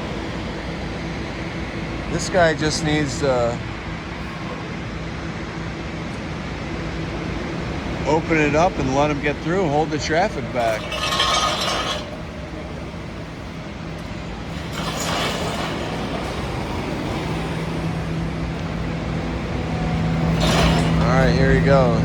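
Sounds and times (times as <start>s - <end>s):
low engine hum: 0.0s - 22.0s
street traffic: 0.0s - 22.0s.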